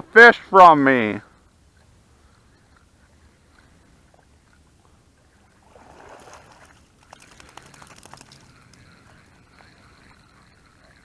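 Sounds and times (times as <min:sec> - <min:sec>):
faint water splashing: 0:01.3 - 0:11.0.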